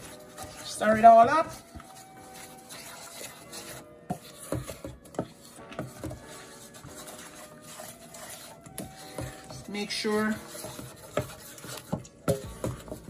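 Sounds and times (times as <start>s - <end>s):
wooden spoon scraping a steel bowl: 0.0s - 13.0s.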